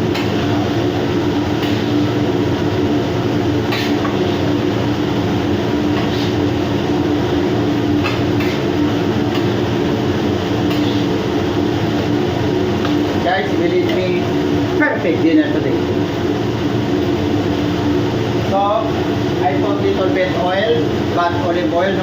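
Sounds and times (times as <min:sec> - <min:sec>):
machinery droning hum: 0:00.0 - 0:22.0.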